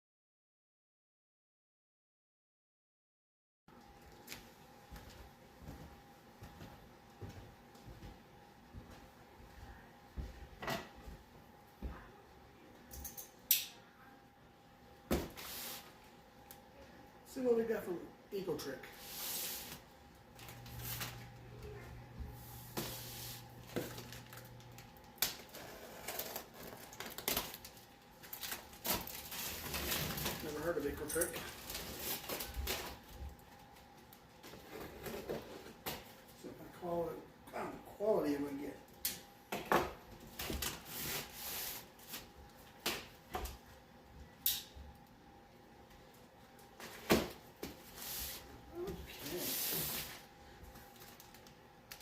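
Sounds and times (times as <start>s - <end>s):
low steady hum: 3.7s - 52.0s.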